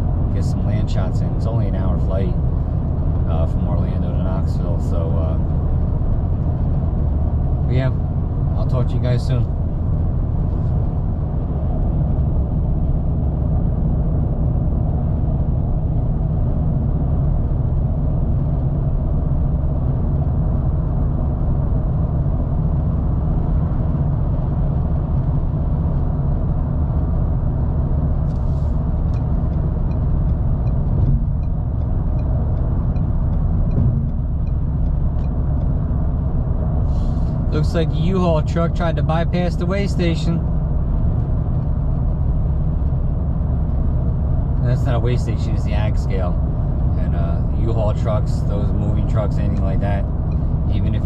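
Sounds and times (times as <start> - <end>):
car road and engine noise: 0.0 - 51.0.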